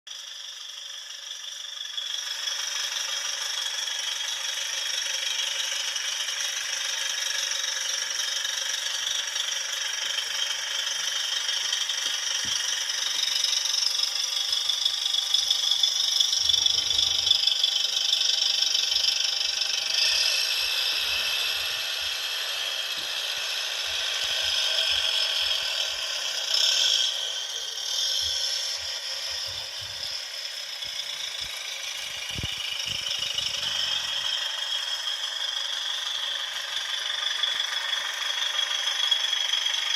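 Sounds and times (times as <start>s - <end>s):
thin engine sound from small speaker: 0.1s - 39.9s.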